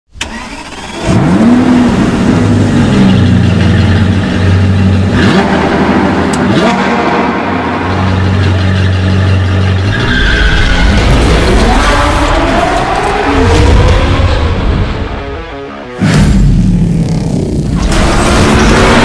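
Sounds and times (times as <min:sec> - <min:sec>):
car engine revving: 0:00.2 - 0:15.2, 0:16.0 - 0:19.0.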